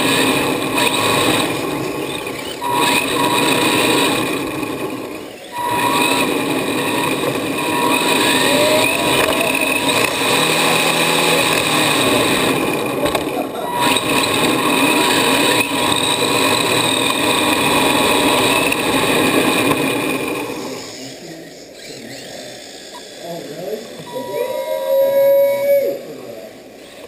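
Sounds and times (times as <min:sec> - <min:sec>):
rc car motor whining: 0:00.0 - 0:27.0.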